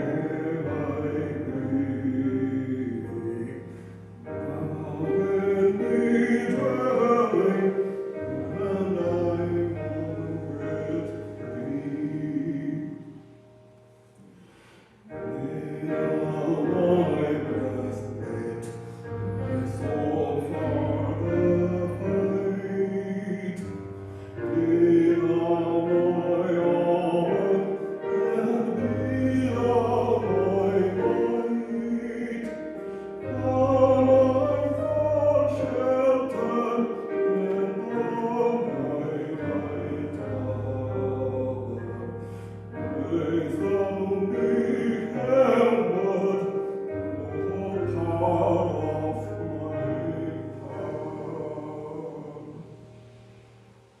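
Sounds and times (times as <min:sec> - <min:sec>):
voices singing a hymn: 0:00.0 - 0:13.3, 0:14.5 - 0:53.1.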